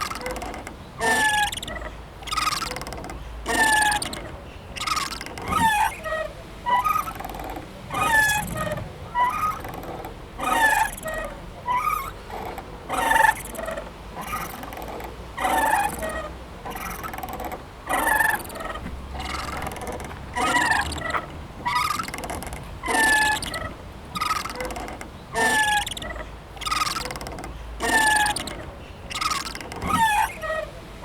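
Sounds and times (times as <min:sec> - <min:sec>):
playground swing squeaking: 0:00.0 - 0:31.0.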